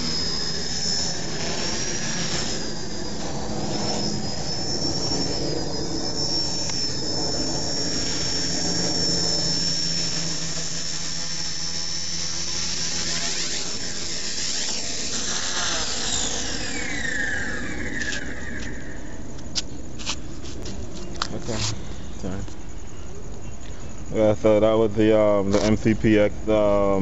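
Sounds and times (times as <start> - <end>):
rc helicopter rotors whining: 0.0 - 22.4.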